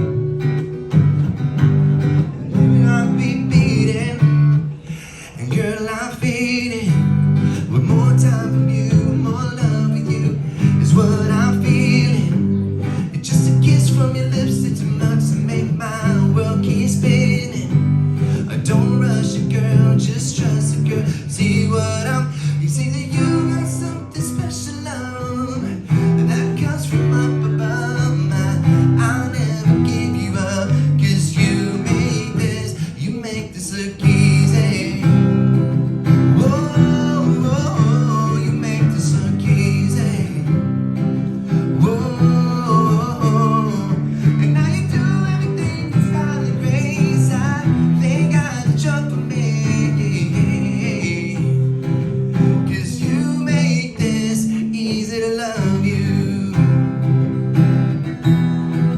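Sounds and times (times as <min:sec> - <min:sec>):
acoustic guitar strumming: 0:00.0 - 0:58.9
man singing: 0:00.0 - 0:58.9.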